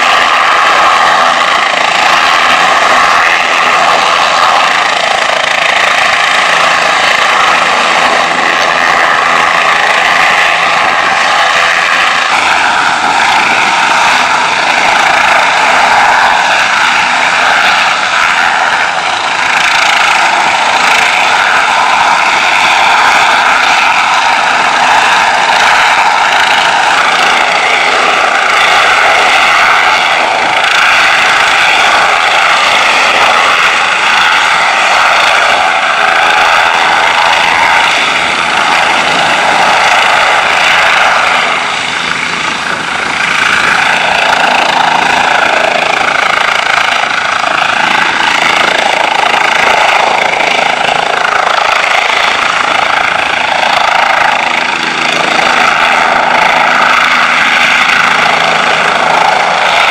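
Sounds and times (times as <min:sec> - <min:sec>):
helicopter engine whine: 0:00.0 - 0:59.9
helicopter rotor noise: 0:00.0 - 0:59.9.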